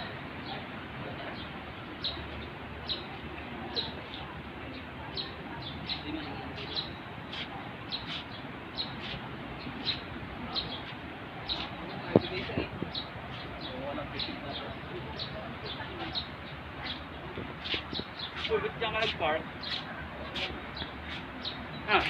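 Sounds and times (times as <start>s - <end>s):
bird chirping: 3.7s - 22.0s.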